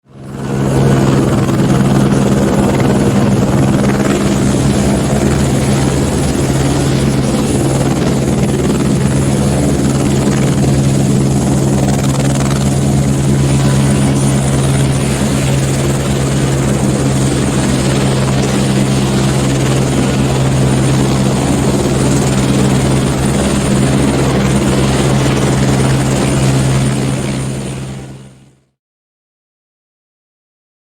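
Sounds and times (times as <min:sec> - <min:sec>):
helicopter rotor chop: 0:00.0 - 0:28.5.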